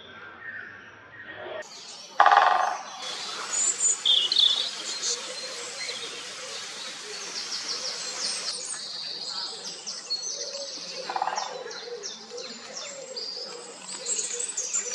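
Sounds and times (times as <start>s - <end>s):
small birds chirping: 1.6s - 14.9s.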